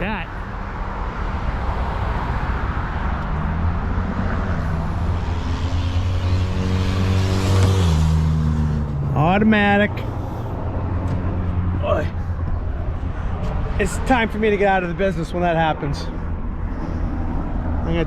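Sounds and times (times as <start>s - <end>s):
outdoor traffic noise: 0.0s - 18.0s.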